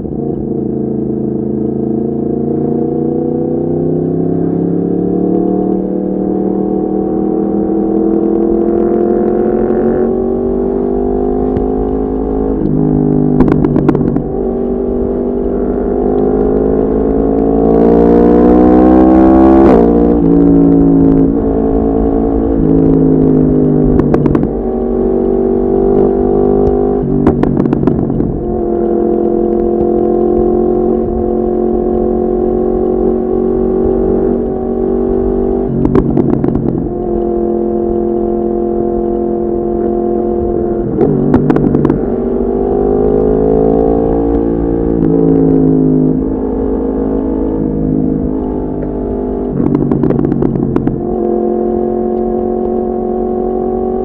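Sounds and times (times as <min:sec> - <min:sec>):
motorcycle engine riding: 0:00.0 - 0:54.0
wind rumble: 0:02.5 - 0:54.0.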